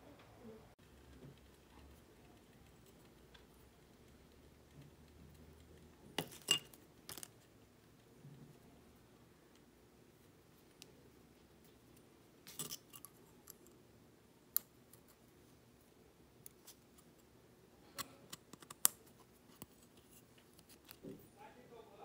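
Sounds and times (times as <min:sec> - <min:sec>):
small clicks and scratches: 0:00.8 - 0:13.8, 0:14.5 - 0:15.5, 0:16.4 - 0:21.2.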